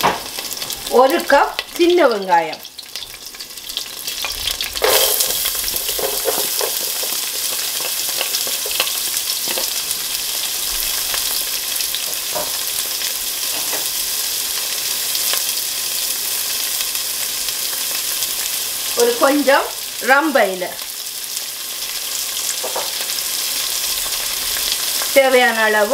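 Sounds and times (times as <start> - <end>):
oil popping and crackling: 0.0 - 20.0, 20.7 - 25.3
onions sizzling in hot oil: 0.0 - 25.9.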